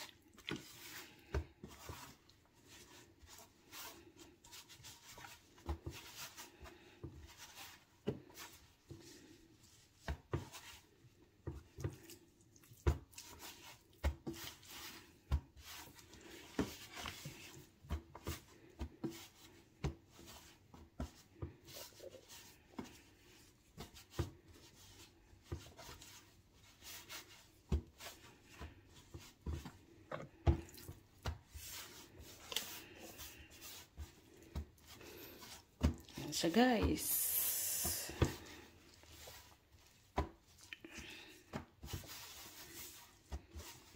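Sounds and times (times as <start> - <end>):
chicken rubbed in flour: 0.0 - 43.9.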